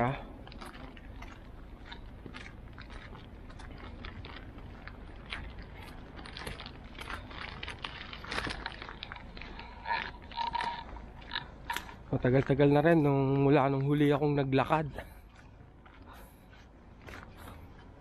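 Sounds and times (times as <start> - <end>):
footsteps on slushy sidewalk: 0.0 - 18.0
low steady rumble: 0.0 - 18.0.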